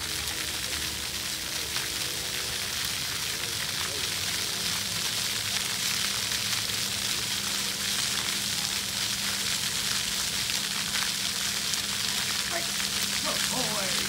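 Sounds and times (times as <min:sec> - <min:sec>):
fountain jets spraying water: 0:00.0 - 0:14.0.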